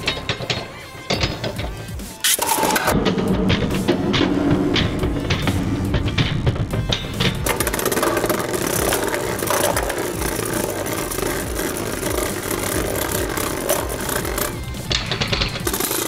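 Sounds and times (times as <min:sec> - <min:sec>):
spinning tops whirring and grinding: 0:00.0 - 0:16.0.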